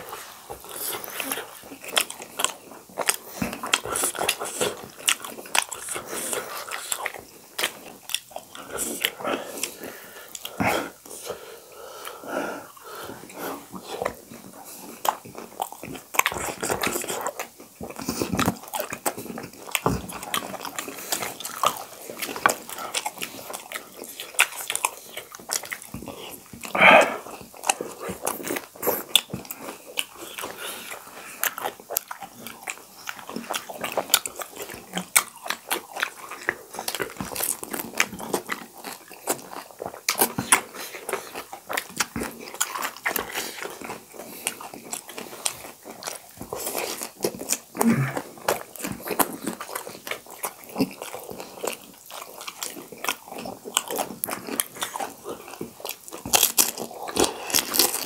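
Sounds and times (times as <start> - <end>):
wet chewing: 0.0 - 58.0.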